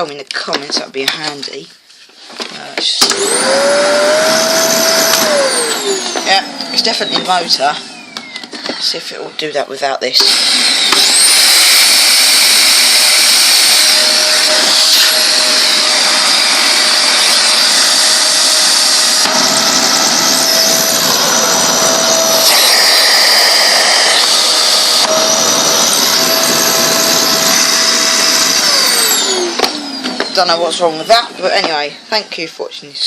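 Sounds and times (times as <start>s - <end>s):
vacuum cleaner motor whining: 3.0s - 32.1s.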